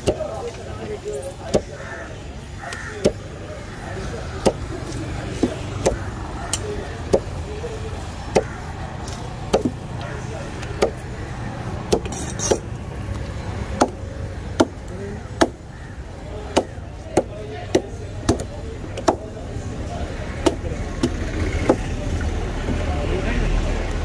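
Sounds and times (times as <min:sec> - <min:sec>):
low street rumble: 0:00.0 - 0:24.0.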